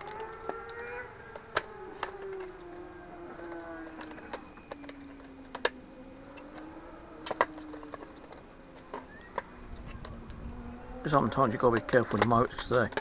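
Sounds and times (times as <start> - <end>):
faint wavering low hum: 0.0 - 12.7
plastic parts clicking and snapping: 0.0 - 13.0.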